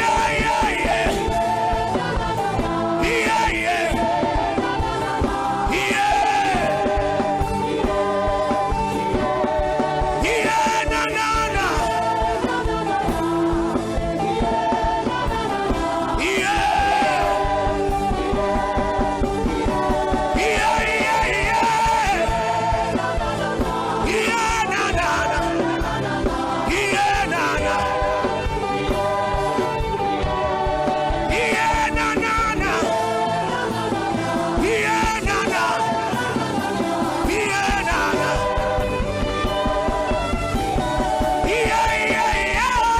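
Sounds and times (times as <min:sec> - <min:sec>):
gospel music with singing: 0:00.0 - 0:42.9.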